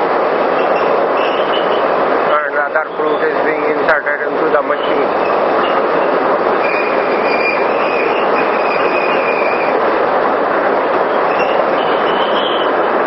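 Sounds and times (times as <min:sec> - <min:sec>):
water turbine rushing: 0:00.0 - 0:13.0.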